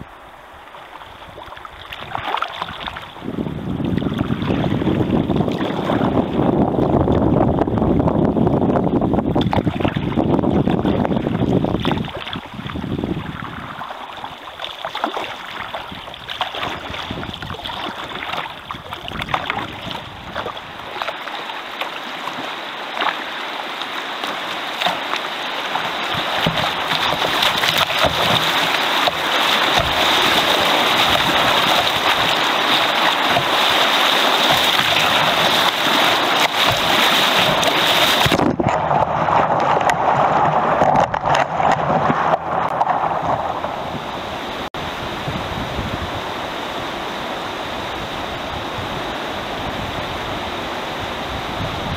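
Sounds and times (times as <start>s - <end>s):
river water splashing on kayak: 0.0s - 51.9s.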